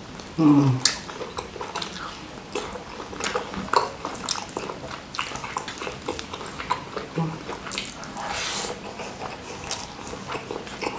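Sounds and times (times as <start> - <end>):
wet chewing mouth smacks: 0.8 - 10.9.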